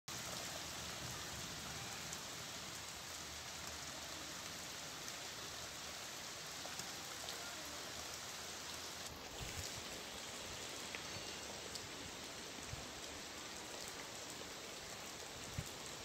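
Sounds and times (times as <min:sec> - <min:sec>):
rain on wet pavement: 0:00.1 - 0:16.0.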